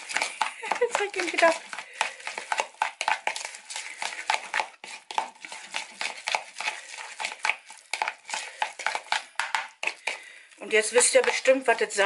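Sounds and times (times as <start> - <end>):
utensil scraping a bowl: 0.0 - 12.0.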